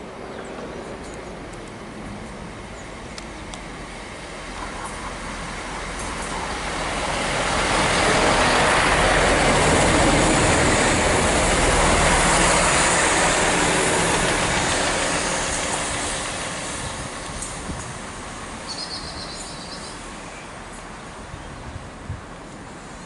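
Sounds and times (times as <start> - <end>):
diesel train engine drone: 0.0 - 23.0
train wheels rumbling on rail: 0.0 - 23.0.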